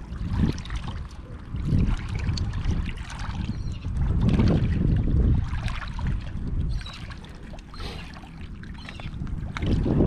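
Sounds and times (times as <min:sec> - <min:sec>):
water sloshing at shoreline: 0:00.0 - 0:10.0
wind gusting on microphone: 0:00.0 - 0:10.0
small clicks and splashes: 0:01.8 - 0:10.0.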